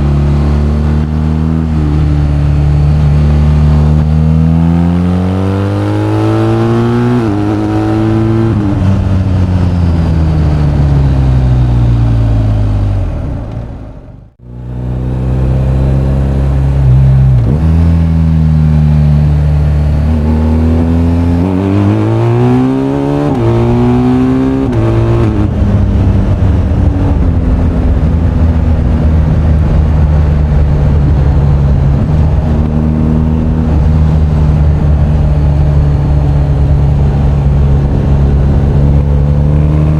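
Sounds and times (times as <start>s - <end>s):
wind rush: 0.0s - 14.4s, 19.0s - 39.9s
motorcycle engine: 0.0s - 39.9s.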